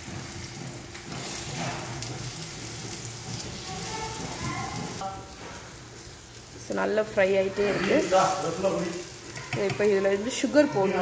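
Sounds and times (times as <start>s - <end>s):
banana slices sizzling in pan: 0.0s - 11.0s.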